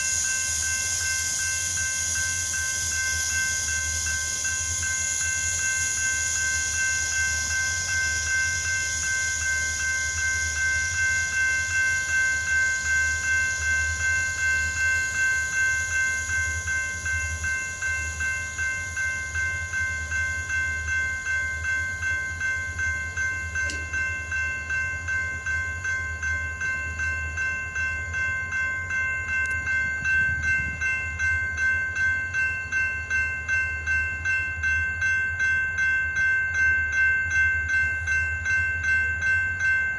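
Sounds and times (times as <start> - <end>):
diesel locomotives idling: 0.0 - 39.9
bell ringing: 3.4 - 39.9.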